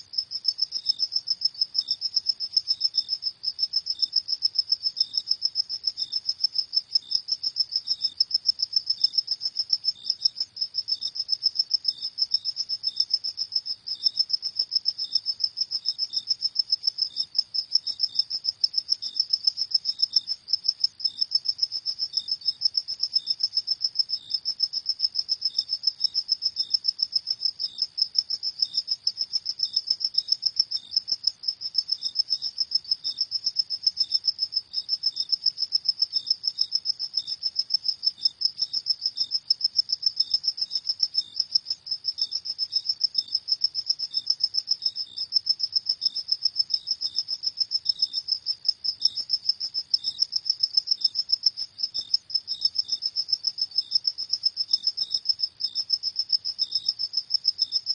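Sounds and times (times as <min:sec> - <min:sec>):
lower cricket chirp: 0:00.0 - 0:57.9.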